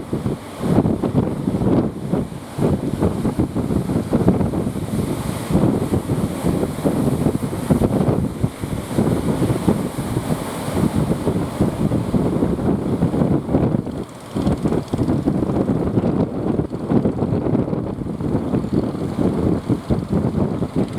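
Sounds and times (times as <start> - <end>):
sea surf: 0.0 - 20.9
wind buffeting microphone: 0.0 - 20.9.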